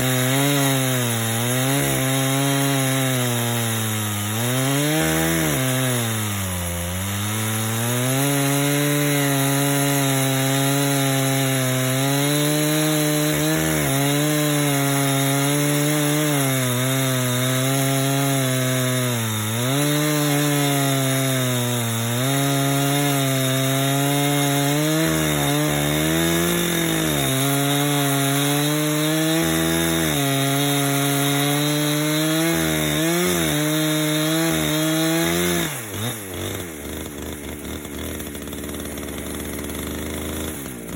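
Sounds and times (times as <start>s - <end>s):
chainsaw cutting a log: 0.0s - 40.9s.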